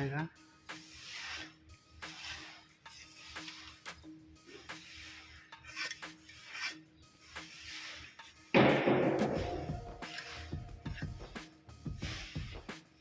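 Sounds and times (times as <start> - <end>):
scratchy rubbing on metal tray: 0.7 - 8.6, 9.3 - 13.0.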